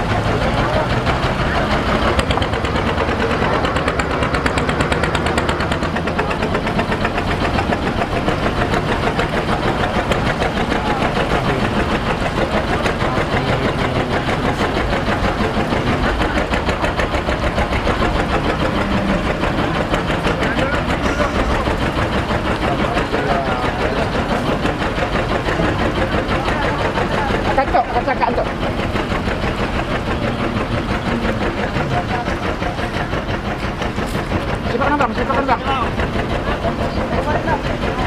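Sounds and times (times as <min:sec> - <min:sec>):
boat engine knocking at low speed: 0:00.0 - 0:38.0.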